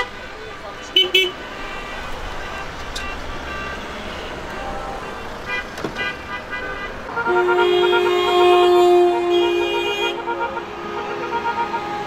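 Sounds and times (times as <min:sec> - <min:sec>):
car horns tooting: 0:00.0 - 0:12.0
long car horn blast: 0:00.0 - 0:12.0
traffic noise: 0:00.0 - 0:12.0.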